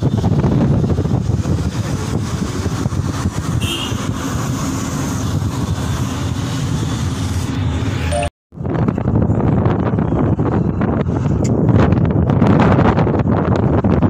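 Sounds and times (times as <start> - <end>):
wind buffeting microphone: 0.0 - 6.7, 8.6 - 14.0
car rumbling: 0.0 - 14.0
road noise: 0.0 - 14.0.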